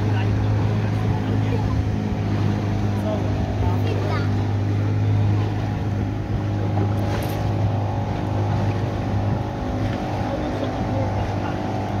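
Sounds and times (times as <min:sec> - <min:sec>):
boat motor droning: 0:00.0 - 0:12.0.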